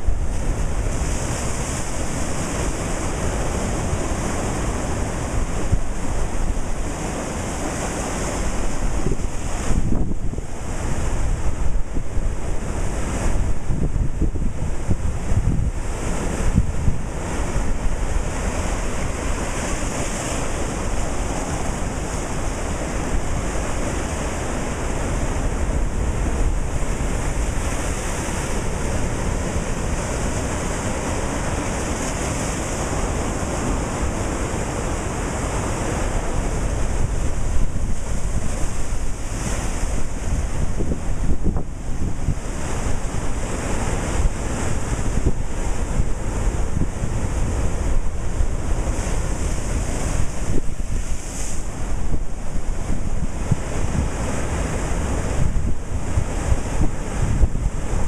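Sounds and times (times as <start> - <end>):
ocean surf breaking on rocks: 0.0 - 58.0
wind buffeting microphone: 0.0 - 58.0.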